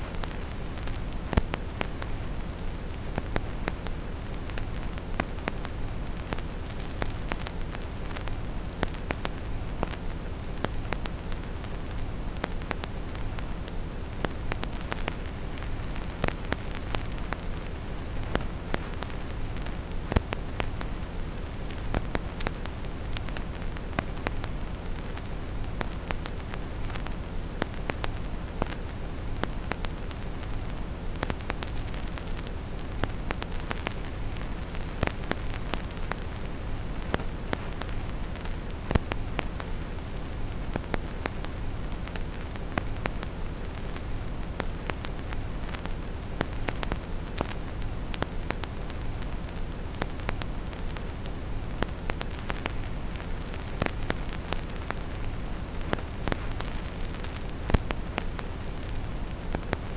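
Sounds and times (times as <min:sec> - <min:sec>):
deep steady hiss: 0:00.0 - 0:59.9
vinyl record crackle: 0:00.0 - 0:59.9.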